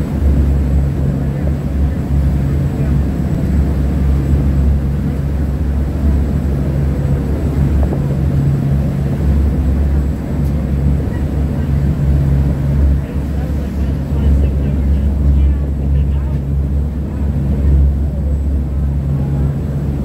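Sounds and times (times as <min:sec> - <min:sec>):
ferry machinery drone: 0:00.0 - 0:20.0.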